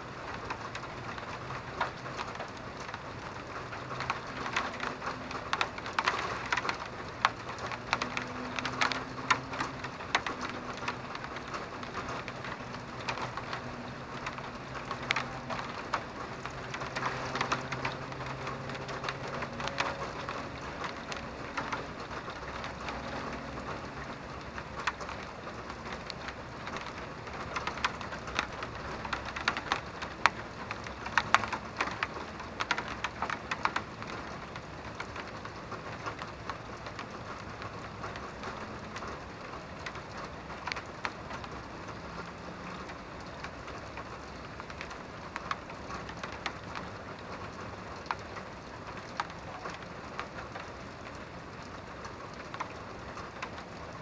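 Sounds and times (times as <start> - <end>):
raindrops striking a surface: 0.0 - 54.0
steady rain falling: 0.0 - 54.0.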